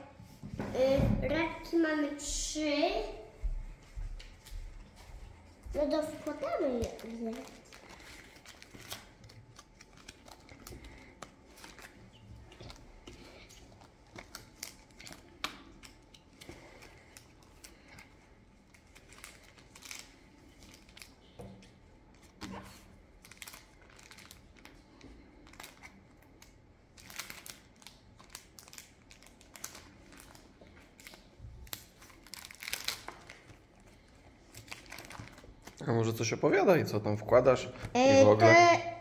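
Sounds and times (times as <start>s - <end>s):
plastic pockets crinkling: 4.2s - 36.1s.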